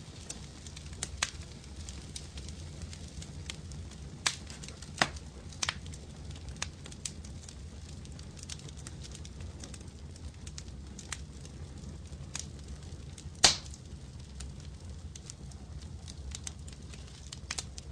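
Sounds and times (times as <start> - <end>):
fire crackling in a fireplace: 0.0 - 17.9.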